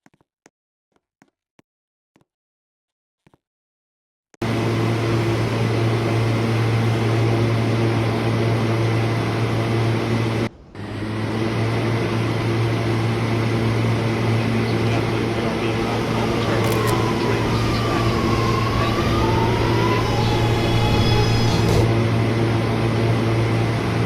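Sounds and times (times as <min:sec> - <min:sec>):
subway train hum: 0:04.4 - 0:24.0.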